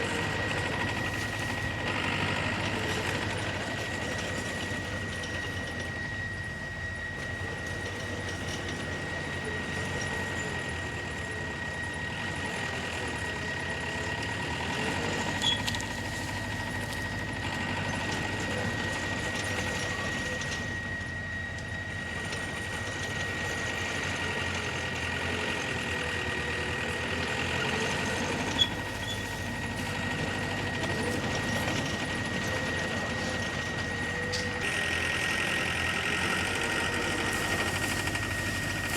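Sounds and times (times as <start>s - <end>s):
diesel engine running: 0.0s - 38.9s
high-pitched whine: 0.0s - 38.9s.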